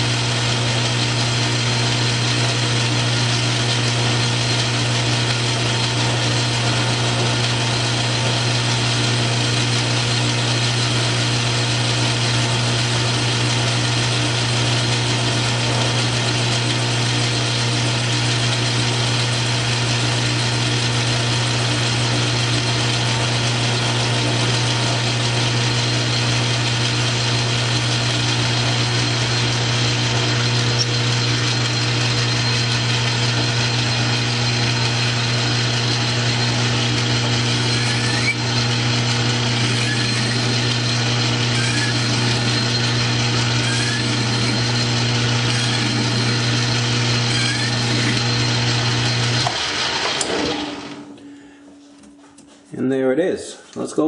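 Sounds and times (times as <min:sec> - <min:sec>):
lathe cutting noise: 0:00.0 - 0:51.1
metal lathe motor hum: 0:00.0 - 0:51.3.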